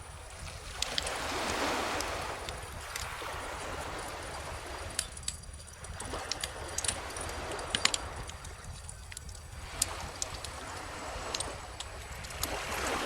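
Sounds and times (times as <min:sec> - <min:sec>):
wood fire crackling: 0:00.0 - 0:12.8
gentle ocean waves: 0:00.0 - 0:13.0.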